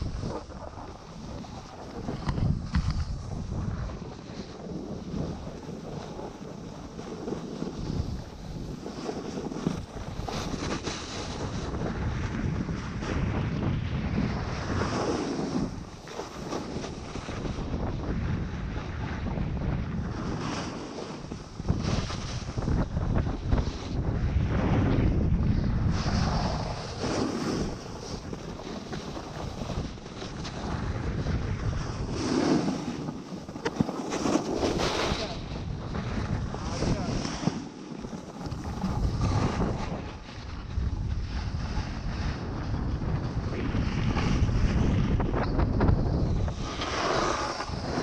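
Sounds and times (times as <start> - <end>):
snowboard carving over snow: 0.0 - 48.0
wind rushing over microphone: 0.0 - 48.0.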